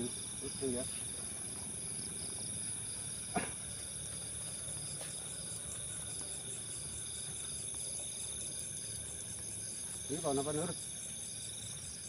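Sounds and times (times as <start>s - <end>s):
insects trilling: 0.0s - 12.0s
pulsing cricket chirps: 0.0s - 12.0s.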